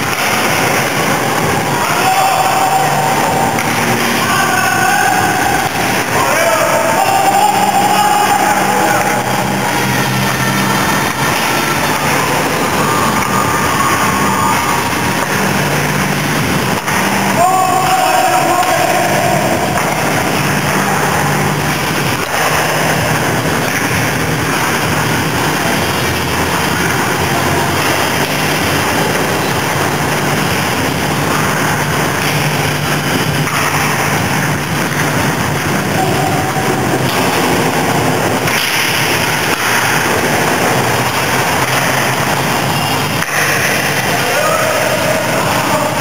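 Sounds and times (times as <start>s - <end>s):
ice rink machinery hum: 0.0s - 46.0s
low drone: 0.0s - 46.0s.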